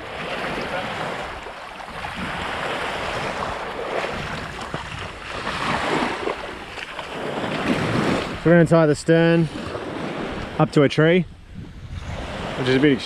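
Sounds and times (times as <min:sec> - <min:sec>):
small waves washing onto sand: 0:00.0 - 0:10.9, 0:11.7 - 0:13.0
wind rumbling on microphone: 0:00.0 - 0:13.0.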